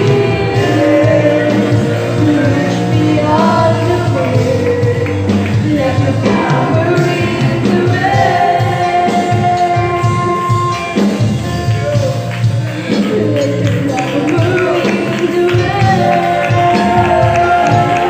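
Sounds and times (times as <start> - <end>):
choir singing: 0.0 - 10.8, 13.1 - 18.0
gospel band music: 0.0 - 18.0.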